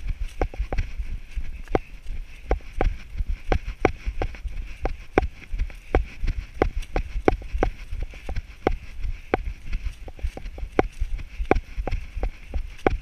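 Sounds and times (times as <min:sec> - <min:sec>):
running footsteps on dirt trail: 0:00.0 - 0:13.0
wind rumble on microphone: 0:00.0 - 0:13.0.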